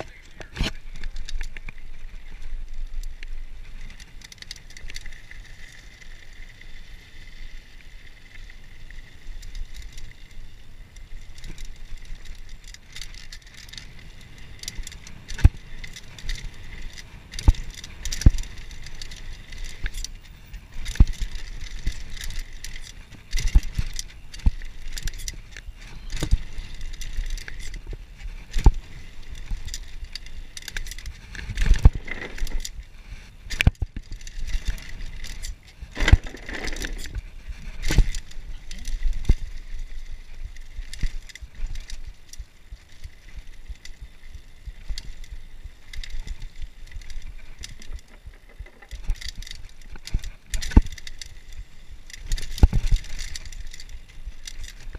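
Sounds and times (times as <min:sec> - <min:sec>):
bike tyres on dirt: 0:00.0 - 0:54.9
chain and bike rattling: 0:00.2 - 0:54.9.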